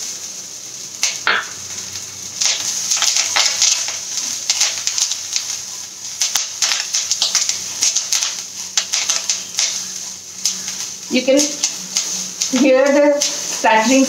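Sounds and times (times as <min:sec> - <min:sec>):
leaves crackling in hot oil: 0:00.0 - 0:14.0
spatula stirring in wok: 0:02.4 - 0:14.0.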